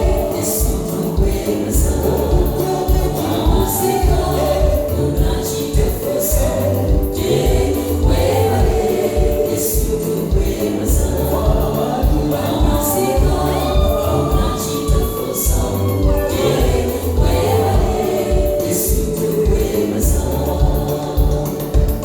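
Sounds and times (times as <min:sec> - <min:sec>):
beat with heavy bass: 0:00.0 - 0:22.0
gospel choir singing: 0:00.0 - 0:22.0.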